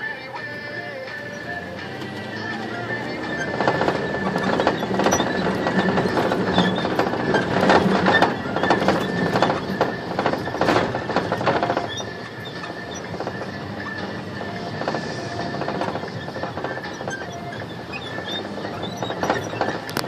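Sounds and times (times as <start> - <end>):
road and engine noise: 0.0 - 20.0
van body rattling and squeaking: 0.0 - 20.0.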